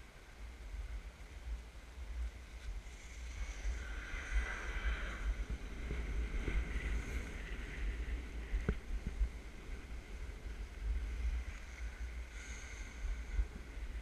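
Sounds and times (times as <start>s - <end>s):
wind buffeting microphone: 2.0s - 14.0s
skis scraping on snow: 2.4s - 14.0s.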